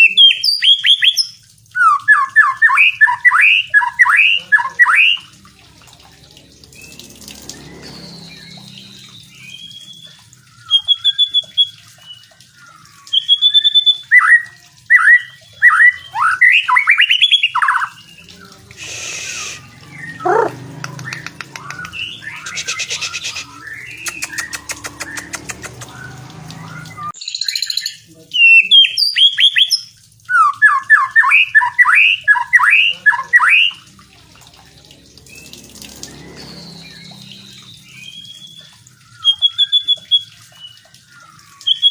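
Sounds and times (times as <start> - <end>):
bird singing whistled notes: 0.0 - 5.3, 7.6 - 18.3, 19.3 - 33.8, 36.1 - 41.9.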